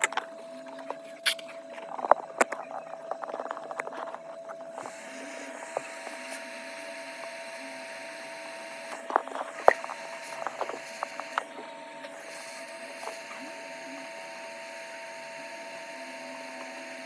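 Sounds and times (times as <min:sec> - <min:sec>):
bench equipment whine and hiss: 0:00.0 - 0:17.0.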